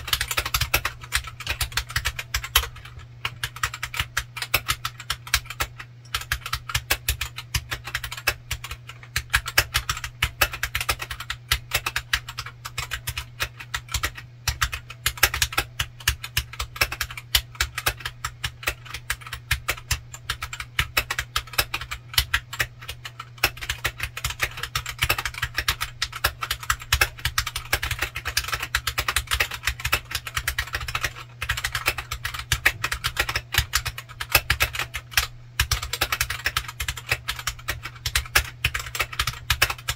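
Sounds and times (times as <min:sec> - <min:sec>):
fast typing on keyboard: 0:00.0 - 0:39.9
steady low hum: 0:00.0 - 0:39.9.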